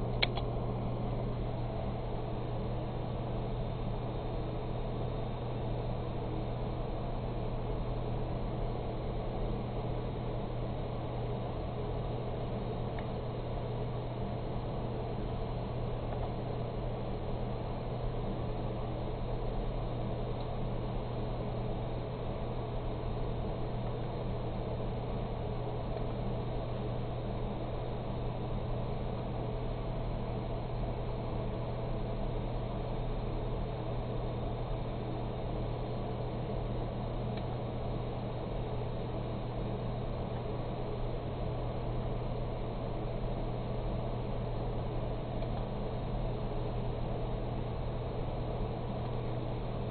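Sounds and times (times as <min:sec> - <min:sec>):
computer fans humming and hissing: 0:00.0 - 0:49.9.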